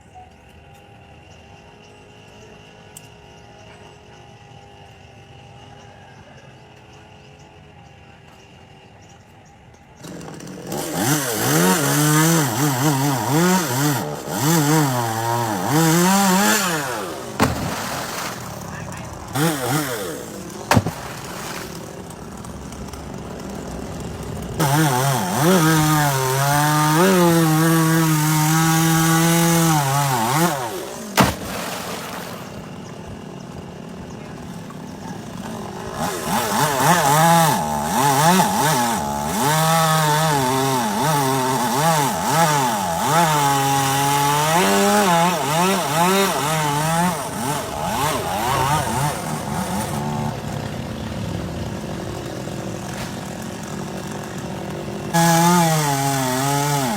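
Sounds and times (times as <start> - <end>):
chainsaw cutting wood: 10.0 - 56.9.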